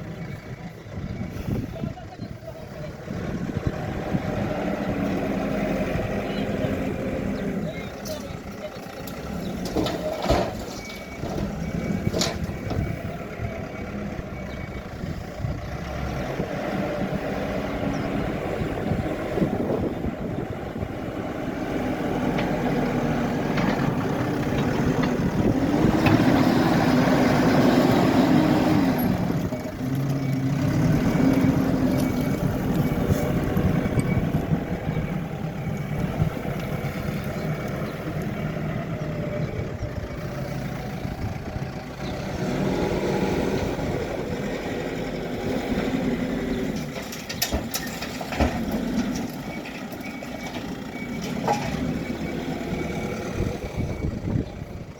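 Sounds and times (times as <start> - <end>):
backhoe loader diesel engine: 0.0 - 54.9.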